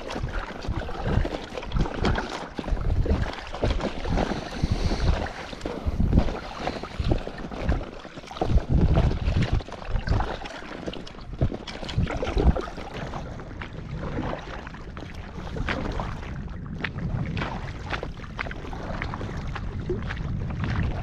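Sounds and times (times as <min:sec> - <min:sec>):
paddle splashing in water: 0:00.0 - 0:21.0
wind rumbling on microphone: 0:00.0 - 0:21.0.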